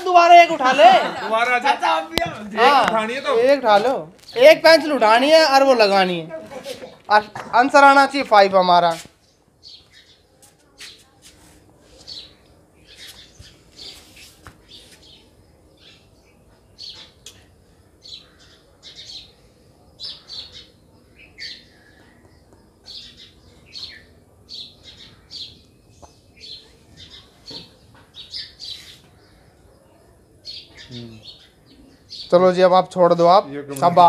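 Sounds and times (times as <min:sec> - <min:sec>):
small birds chirping: 0:01.7 - 0:08.4, 0:09.0 - 0:11.2, 0:11.8 - 0:34.0.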